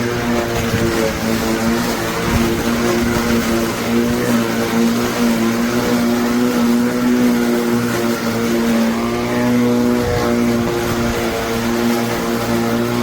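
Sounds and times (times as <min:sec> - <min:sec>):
electric motor running: 0:00.0 - 0:13.0.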